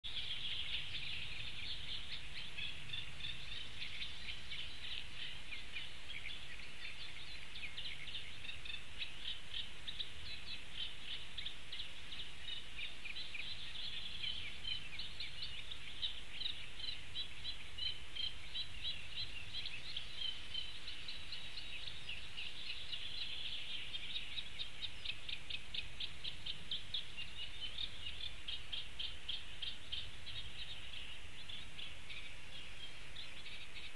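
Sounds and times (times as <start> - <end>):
small birds chattering song: 0.0 - 33.9.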